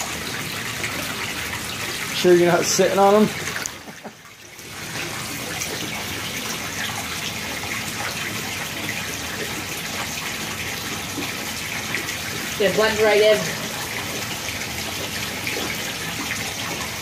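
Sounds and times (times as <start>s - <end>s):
water pouring into pond: 0.0s - 17.0s.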